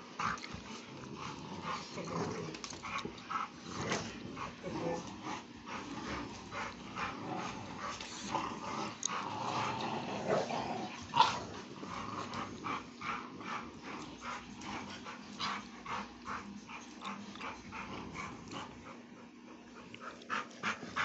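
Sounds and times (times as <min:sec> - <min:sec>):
dogs play-growling and whimpering: 0:00.0 - 0:21.0.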